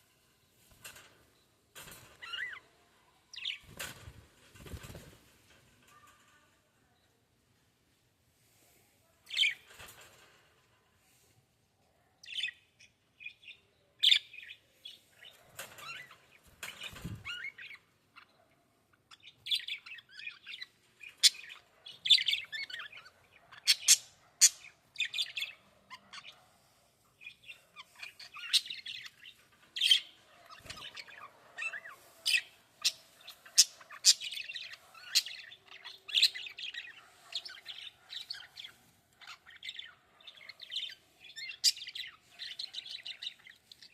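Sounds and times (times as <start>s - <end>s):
small birds chirping: 0.0s - 7.5s, 8.6s - 11.1s, 11.8s - 43.9s.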